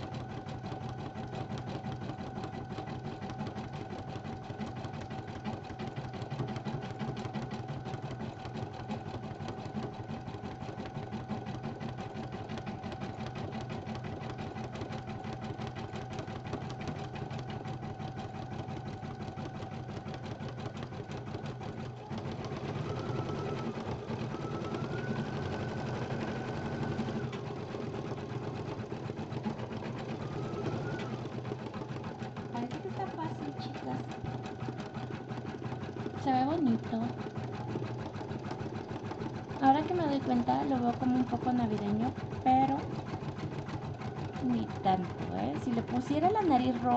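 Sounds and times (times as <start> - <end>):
embroidery machine stitching: 0.0 - 46.9.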